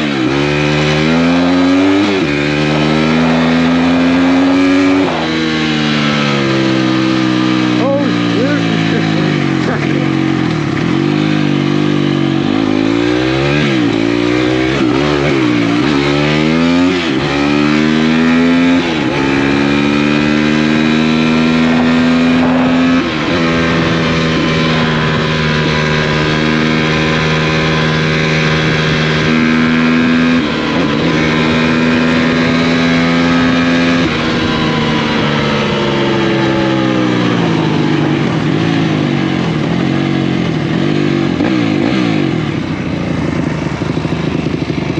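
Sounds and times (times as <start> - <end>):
off-road motorcycle engine revving: 0.0 - 44.9.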